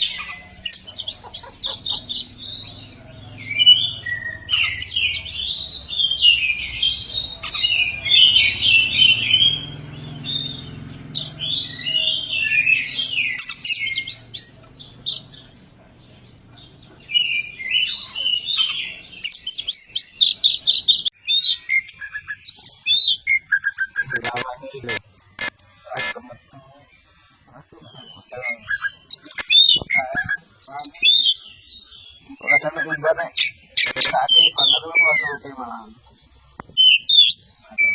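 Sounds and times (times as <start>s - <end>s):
bird singing varied song: 0.0s - 37.9s.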